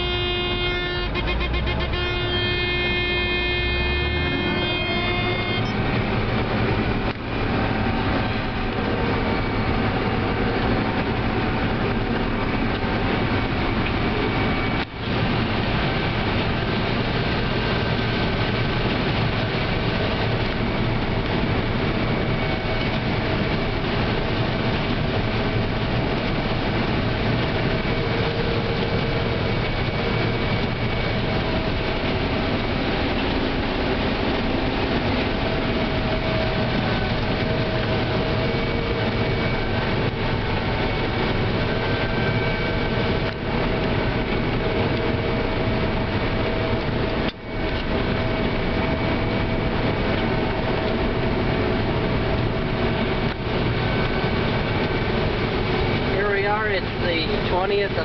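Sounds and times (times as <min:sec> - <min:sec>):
combine harvester engine drone: 0:00.0 - 0:58.0
faint steady whines: 0:00.0 - 0:58.0.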